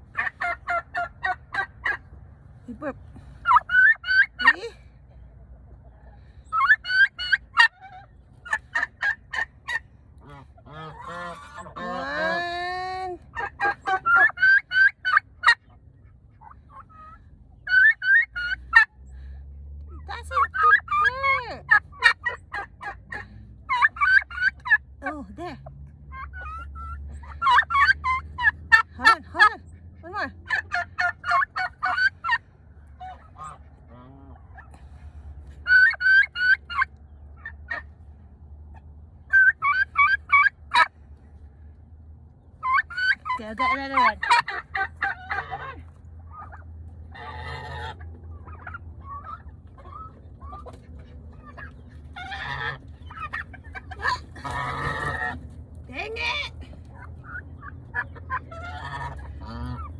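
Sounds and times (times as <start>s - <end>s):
soft turkey calls: 0.0s - 2.2s, 3.0s - 12.4s, 13.3s - 19.1s, 20.4s - 24.8s, 26.0s - 28.9s, 30.4s - 38.0s, 38.7s - 41.5s, 42.3s - 55.5s, 56.8s - 59.9s
turkey gobbling: 0.0s - 12.5s, 13.2s - 19.0s, 20.2s - 24.9s, 26.0s - 38.0s, 38.7s - 41.0s, 42.5s - 55.6s, 56.2s - 59.9s.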